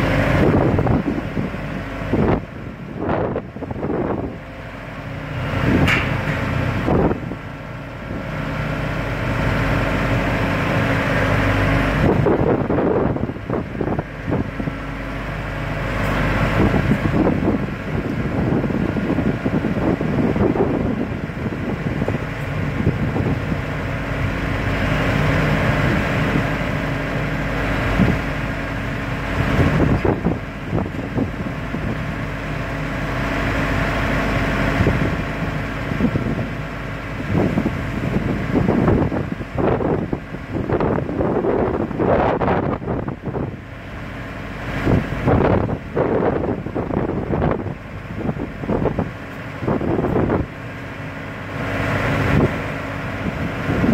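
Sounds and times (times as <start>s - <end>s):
low engine hum: 0.0s - 53.9s
wind buffeting microphone: 0.0s - 53.9s.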